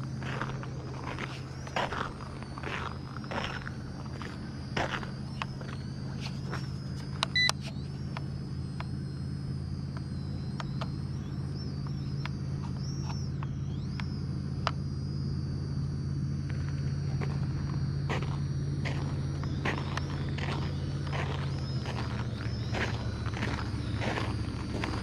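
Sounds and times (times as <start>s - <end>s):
drone motor whine: 0.0s - 25.0s
short beep: 1.0s - 25.0s.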